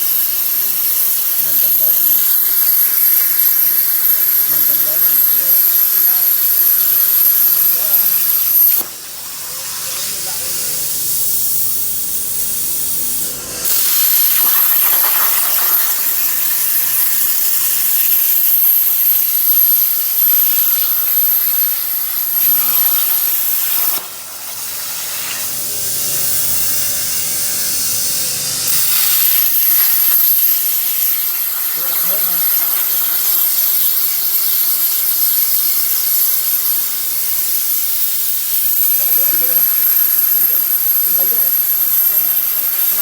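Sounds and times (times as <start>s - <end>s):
cutting machine hiss and whine: 0.0s - 43.0s.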